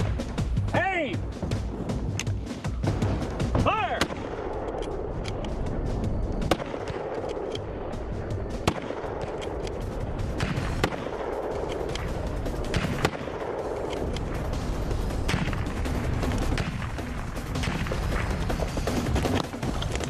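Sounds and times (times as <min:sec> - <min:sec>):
background music: 0:00.0 - 0:20.0
rifle shots: 0:02.2 - 0:20.0.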